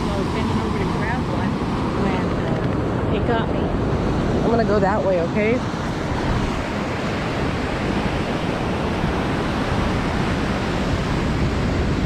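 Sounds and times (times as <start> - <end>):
ocean waves on sandy beach: 0.0 - 12.0
wind rumbling on microphone: 0.0 - 12.0.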